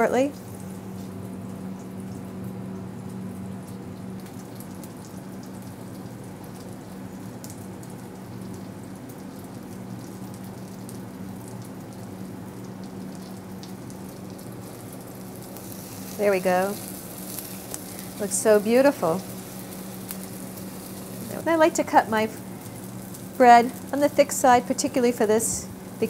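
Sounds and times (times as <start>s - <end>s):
steady low hum: 0.0s - 26.0s
toast sizzling in pan: 3.0s - 26.0s.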